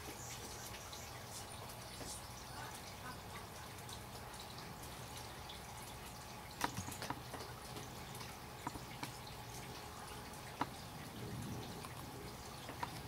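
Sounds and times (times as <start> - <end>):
water dripping from trees: 0.0 - 13.0.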